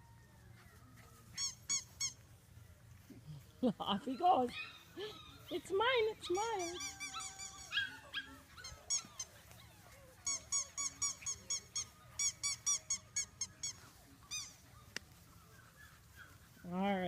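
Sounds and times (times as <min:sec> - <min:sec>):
puppies yipping: 0:00.7 - 0:02.6, 0:03.9 - 0:17.0.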